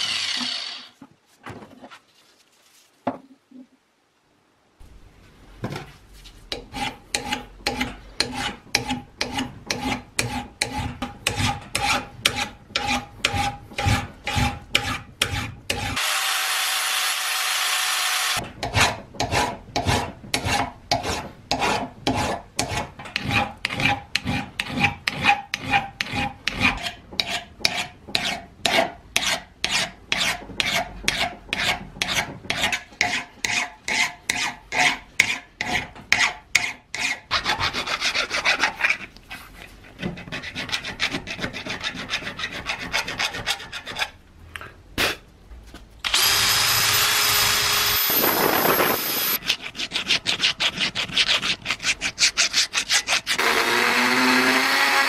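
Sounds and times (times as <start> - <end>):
file rasping on steel: 6.5 - 16.1, 18.2 - 44.2, 46.2 - 55.0.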